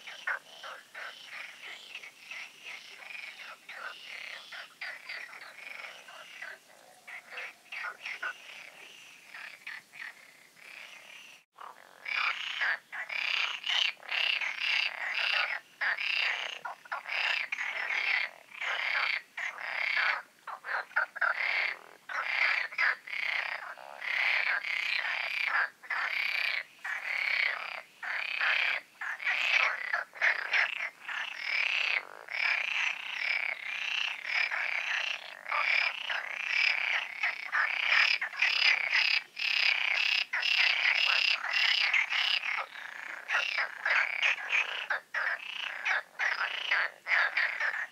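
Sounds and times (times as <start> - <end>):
frogs chorus calling: 0.0 - 47.9.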